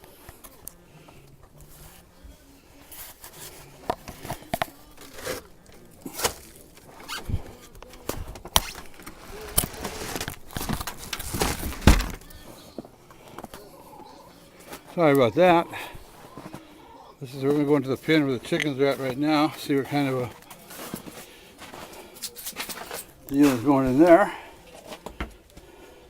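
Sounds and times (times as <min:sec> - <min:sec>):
rustling handling noise: 0:00.0 - 0:26.0.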